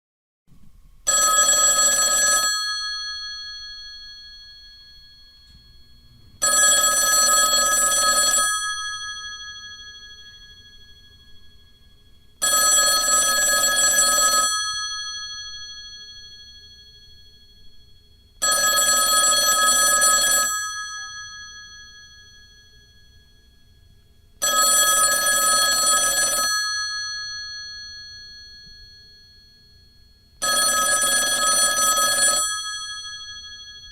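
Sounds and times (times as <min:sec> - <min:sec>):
intercom bell ringing: 0:01.1 - 0:33.9.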